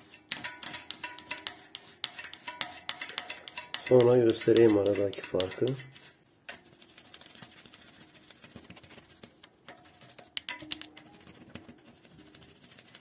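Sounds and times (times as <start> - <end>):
brush clicking against metal: 0.0 - 13.0
toothbrush scratching metal: 0.0 - 13.0.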